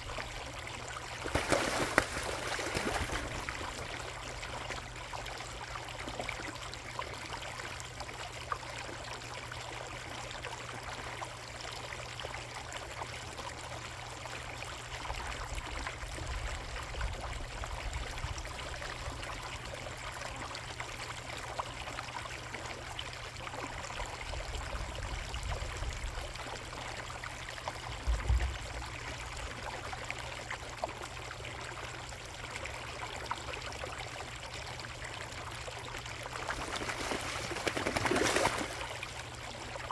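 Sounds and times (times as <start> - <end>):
pond water trickling: 0.0 - 39.9.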